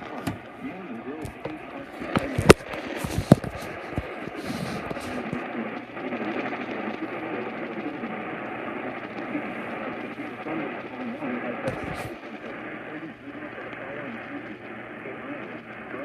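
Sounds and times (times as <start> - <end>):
radio hiss: 0.0 - 16.0.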